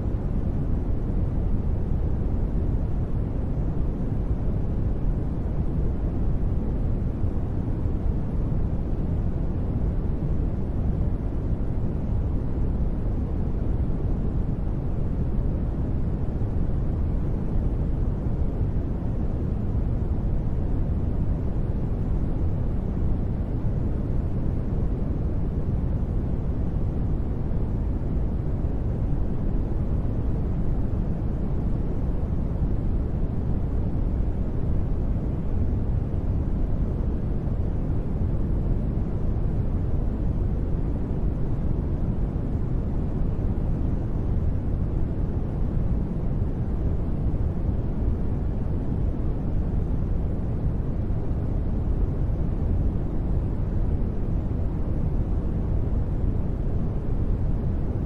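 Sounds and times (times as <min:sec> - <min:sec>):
deep rumbling white noise: 0:00.0 - 0:58.0.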